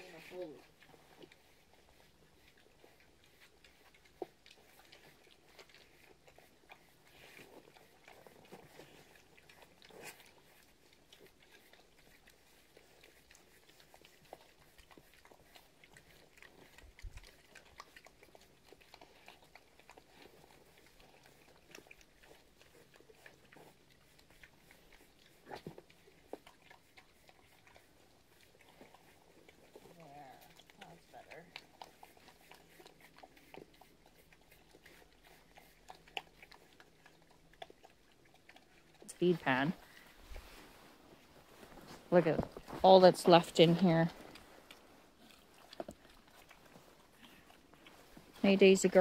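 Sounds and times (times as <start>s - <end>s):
pigs chewing and crunching feed: 0.0s - 49.0s.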